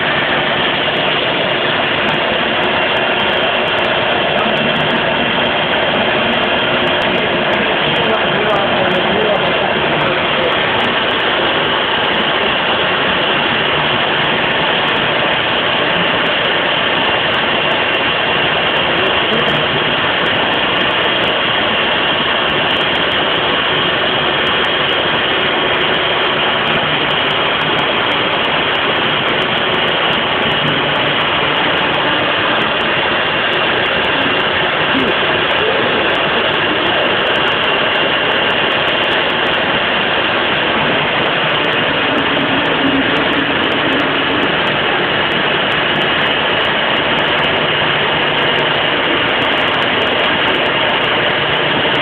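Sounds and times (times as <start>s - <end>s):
faint high whine: 0.0s - 52.0s.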